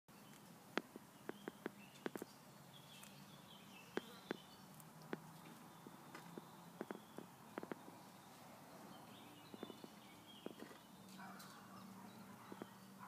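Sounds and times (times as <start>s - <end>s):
tortoise moving among plants: 0.1s - 13.0s
faint bird chirps: 1.2s - 4.7s, 5.4s - 13.0s.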